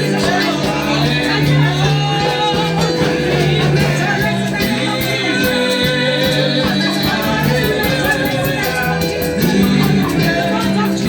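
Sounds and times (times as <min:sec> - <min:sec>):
bass: 0:00.0 - 0:11.0
percussion beat: 0:00.0 - 0:11.0
person singing: 0:00.0 - 0:11.0
upbeat gospel music: 0:00.0 - 0:11.0.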